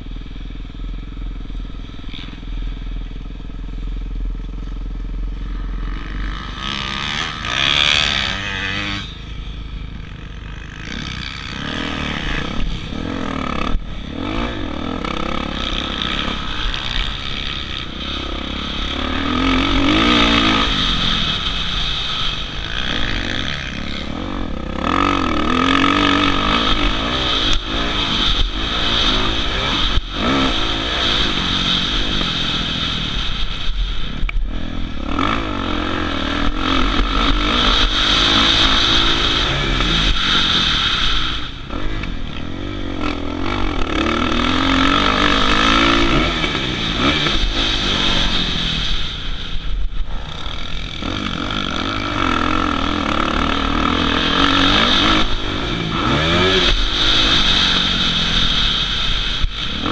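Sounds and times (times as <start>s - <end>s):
motocross engine revving: 1.9s - 59.9s.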